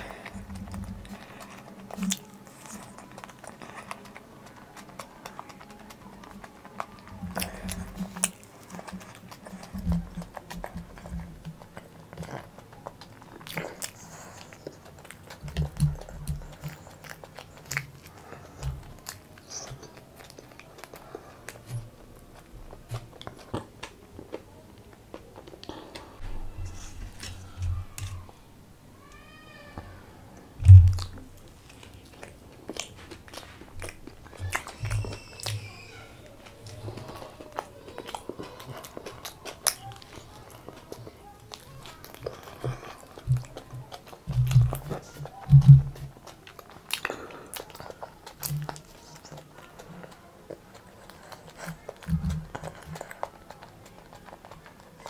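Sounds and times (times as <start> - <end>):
wet mouth clicks: 0.0 - 24.4, 30.6 - 35.9, 36.6 - 55.0
person chewing a sandwich: 0.0 - 28.4, 29.0 - 55.0.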